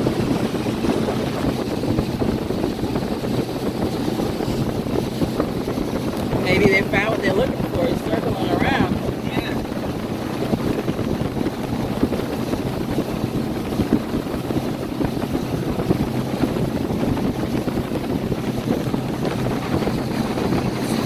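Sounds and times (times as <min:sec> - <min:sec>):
boat motor humming: 0:00.0 - 0:21.0
wind buffeting microphone: 0:00.0 - 0:21.0.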